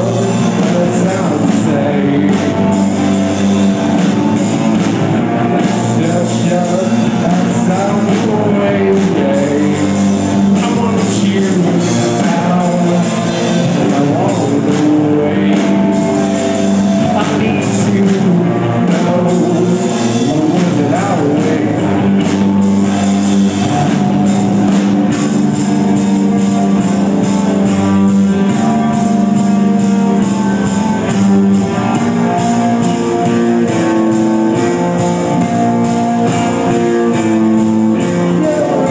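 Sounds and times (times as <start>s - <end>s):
bass guitar: 0.0s - 38.9s
drum kit: 0.0s - 38.9s
electric guitars: 0.0s - 38.9s
person singing: 0.0s - 38.9s.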